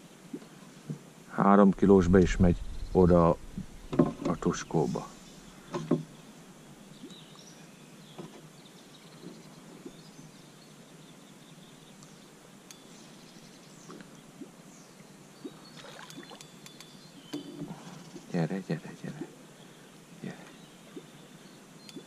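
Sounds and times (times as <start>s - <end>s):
faint bird chirps: 2.5s - 22.0s.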